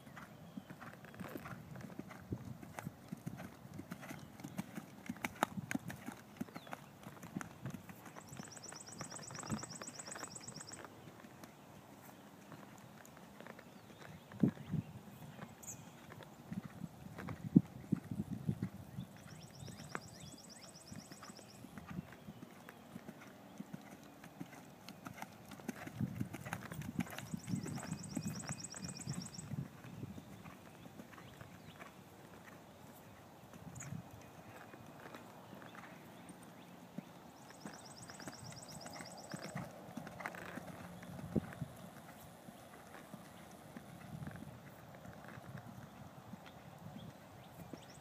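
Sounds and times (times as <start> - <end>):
horse hooves cantering on turf: 0.0 - 48.0.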